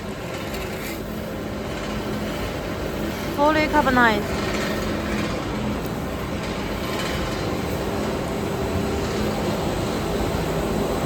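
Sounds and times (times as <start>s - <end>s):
furnace plant rumble and hiss: 0.0s - 11.0s.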